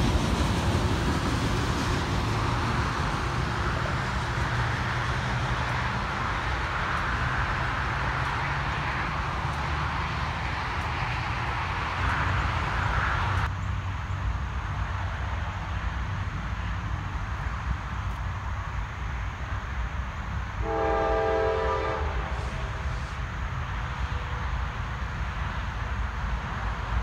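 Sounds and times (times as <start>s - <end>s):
hiss of wheel noise: 0.0s - 27.0s
train rolling on rails: 0.0s - 27.0s.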